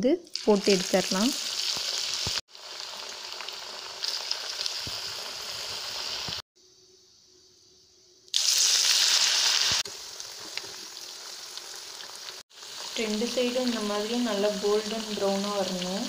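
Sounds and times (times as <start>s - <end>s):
batter sizzling in hot oil: 0.3s - 6.4s, 8.3s - 16.0s.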